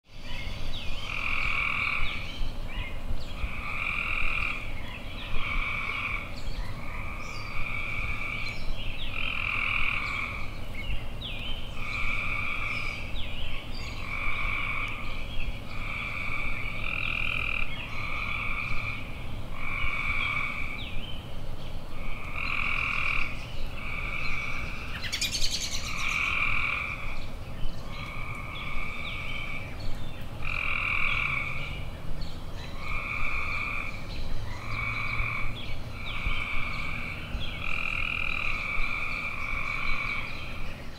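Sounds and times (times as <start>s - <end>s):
faint birds chirping: 0.1s - 40.9s
tree frogs calling: 0.1s - 40.9s.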